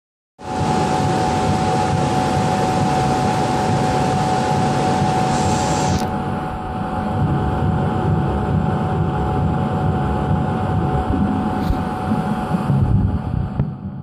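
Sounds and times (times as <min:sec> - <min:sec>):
laser engraver air rush and tone: 0:00.4 - 0:13.6.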